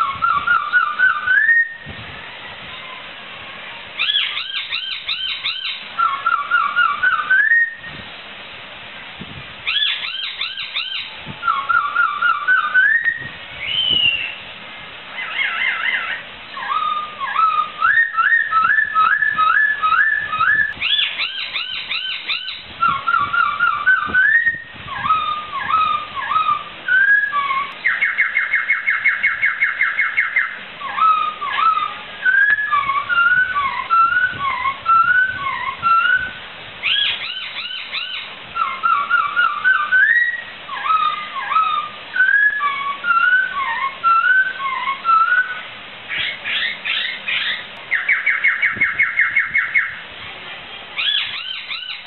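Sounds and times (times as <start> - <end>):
bird singing whistled phrases: 0.0 - 1.9, 4.0 - 8.0, 9.6 - 14.5, 15.2 - 50.0, 51.0 - 52.0
bird trill: 0.0 - 3.1, 4.0 - 7.9, 9.6 - 14.5, 15.1 - 50.0, 51.0 - 52.0.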